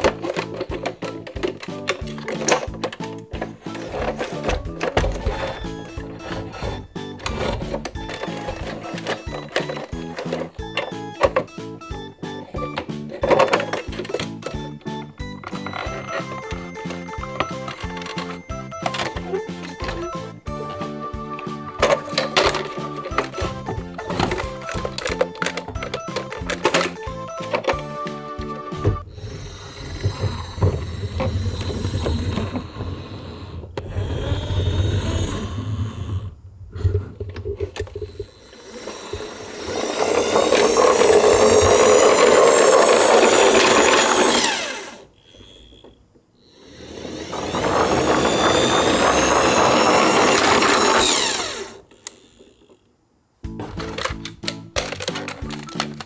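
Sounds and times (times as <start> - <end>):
low rumbling of toy handled: 0.0 - 11.6, 12.5 - 46.0, 46.9 - 52.9, 53.5 - 56.0
toy truck whirring down ramp: 0.0 - 36.2, 36.8 - 52.8.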